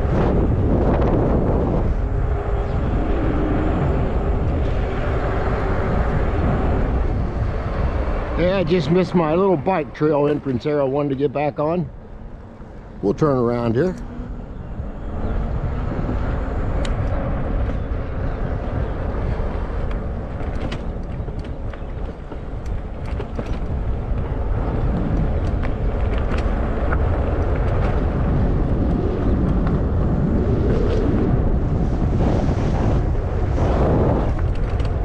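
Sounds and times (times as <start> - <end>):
road noise: 0.0 - 35.0
wind rushing over microphone: 0.0 - 35.0.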